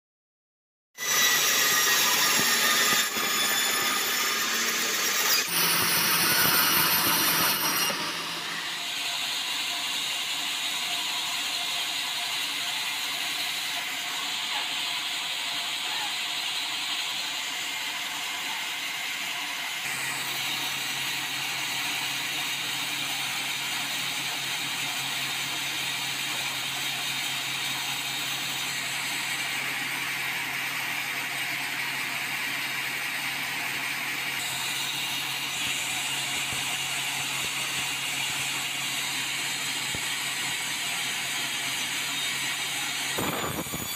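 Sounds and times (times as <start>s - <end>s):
band saw cutting log: 1.0s - 43.9s.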